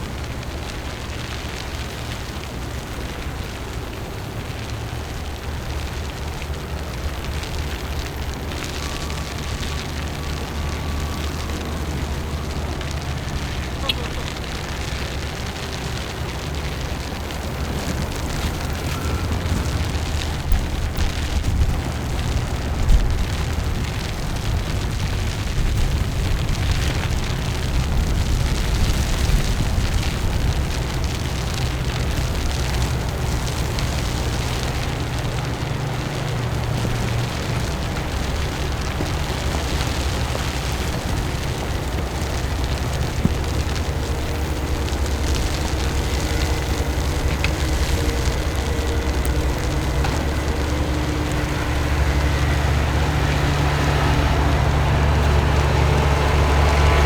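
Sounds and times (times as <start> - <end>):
city ambience rumble and hiss: 0.0 - 57.0.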